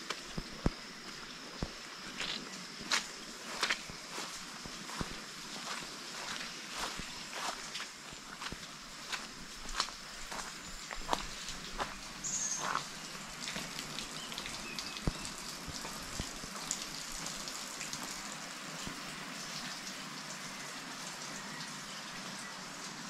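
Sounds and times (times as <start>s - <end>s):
footsteps on wet trail: 0.0s - 19.0s
rain falling in forest: 0.0s - 23.0s
water drips: 0.0s - 23.0s.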